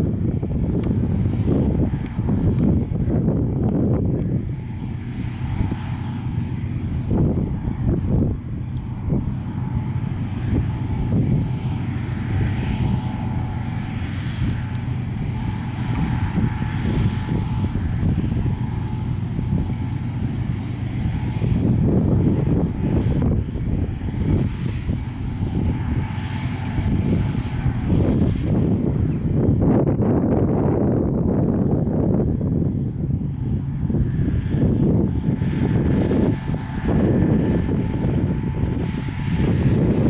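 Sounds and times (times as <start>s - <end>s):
low rumbling gusts: 0.0s - 40.0s
mechanical engine hum: 0.0s - 40.0s.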